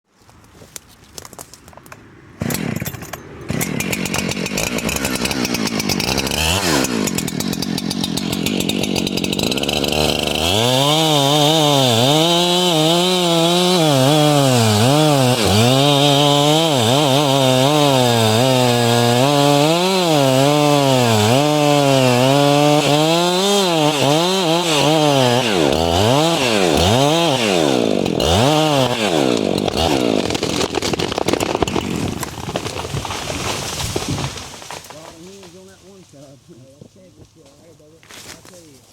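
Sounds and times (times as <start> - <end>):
chainsaw cutting wood: 2.4 - 36.3.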